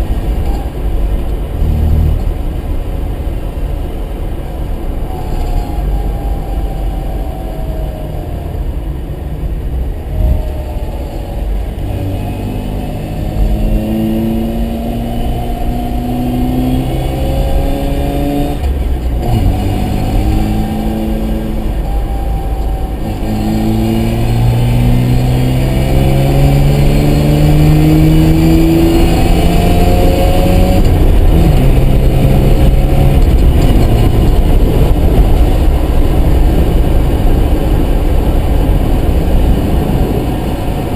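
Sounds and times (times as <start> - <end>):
low road rumble: 0.0 - 40.9
rotary engine accelerating: 0.0 - 40.9.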